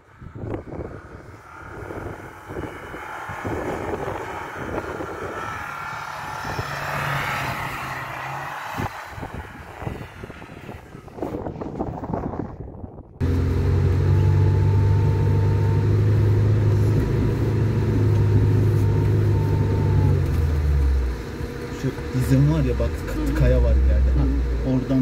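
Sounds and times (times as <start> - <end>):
car engine pulling through snow: 0.2 - 12.0, 13.2 - 25.0.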